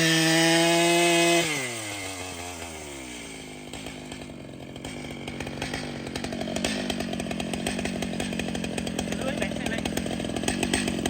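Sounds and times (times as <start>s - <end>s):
chainsaw revving down to idle: 0.0s - 11.0s.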